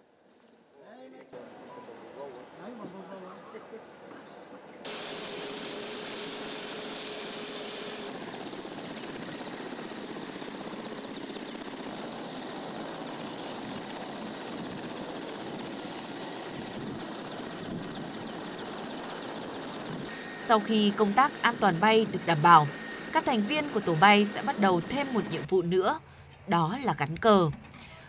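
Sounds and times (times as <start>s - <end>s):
helicopter rotor and turbine: 4.8s - 27.8s
high turbine whine: 4.9s - 27.4s.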